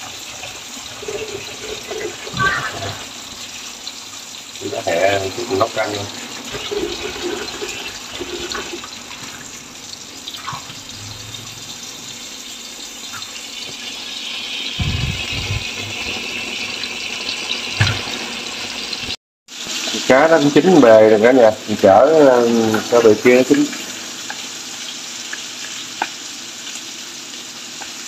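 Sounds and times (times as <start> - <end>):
tap water running into sink: 0.0 - 28.0.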